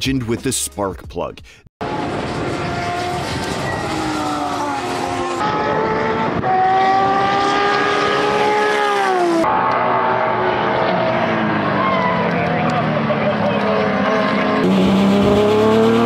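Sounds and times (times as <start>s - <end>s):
racing car engine at high revs: 1.8s - 16.0s.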